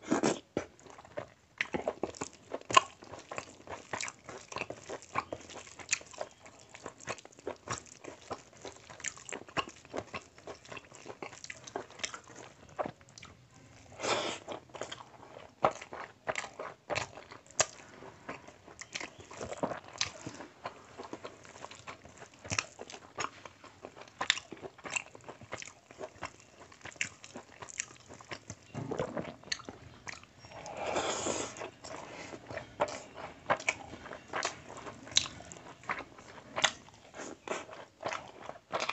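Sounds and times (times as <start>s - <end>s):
wet chewing and lip smacking: 0.2s - 13.4s, 14.4s - 30.8s, 31.4s - 38.9s.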